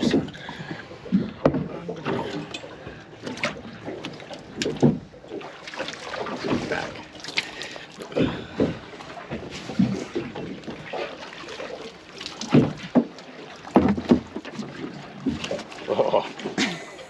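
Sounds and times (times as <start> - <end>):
knocks and thumps on a boat: 0.0 - 16.9
water washing: 0.0 - 16.9
wind: 0.0 - 17.0.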